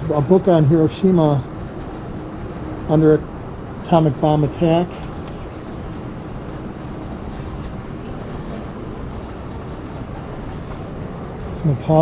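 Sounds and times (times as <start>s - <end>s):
ventilation noise: 0.0s - 12.0s.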